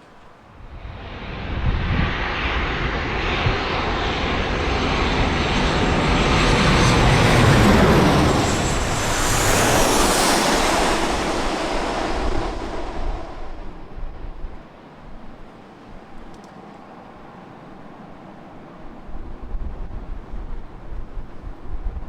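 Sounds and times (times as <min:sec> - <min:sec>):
jet engine high whine: 0:00.0 - 0:21.4
jet airliner passing: 0:00.0 - 0:21.8.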